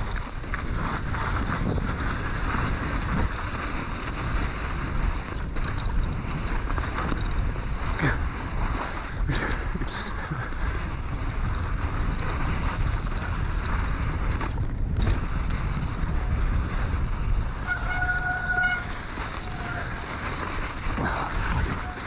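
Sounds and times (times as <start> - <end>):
tyres rumbling on trail: 0.0 - 22.0
wind buffeting microphone: 0.0 - 22.0.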